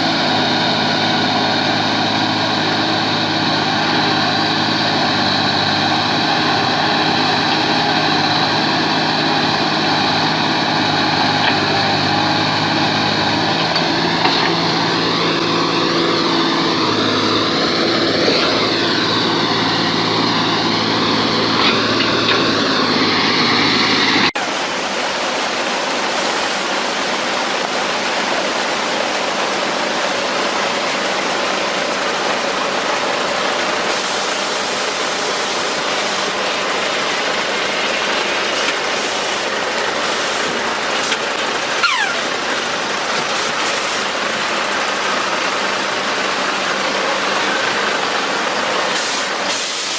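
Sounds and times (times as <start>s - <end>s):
heavy truck engine running: 0.0s - 49.9s
noisy engine: 0.0s - 49.9s.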